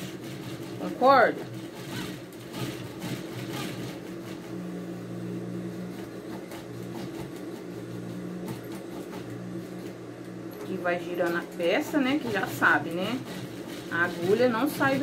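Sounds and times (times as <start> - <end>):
sewing machine motor humming: 0.0 - 15.0.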